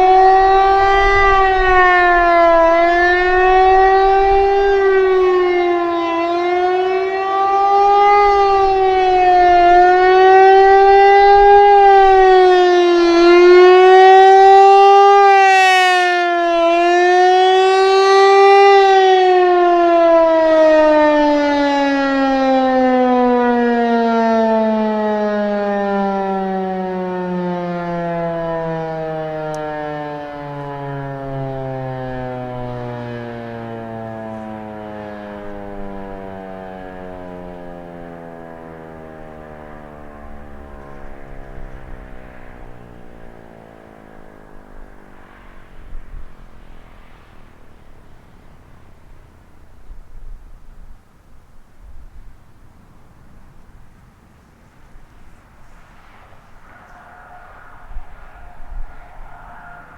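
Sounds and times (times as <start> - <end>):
warning siren fast wail: 0.0 - 50.7, 54.8 - 59.9.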